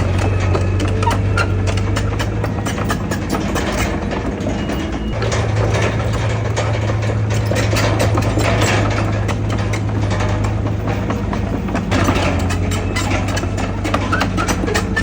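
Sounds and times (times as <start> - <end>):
diesel engine humming: 0.0 - 15.0
metallic clicking and clanking: 0.0 - 15.0.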